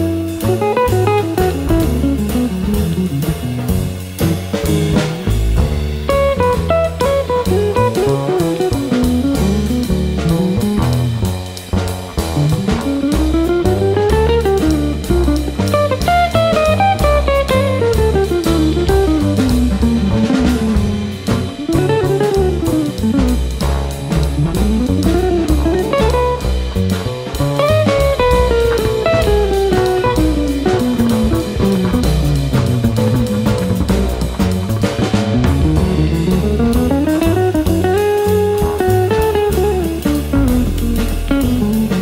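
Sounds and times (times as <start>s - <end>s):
drums keeping time: 0.0s - 42.0s
jazz guitar runs: 0.0s - 42.0s
low bass line: 0.0s - 42.0s.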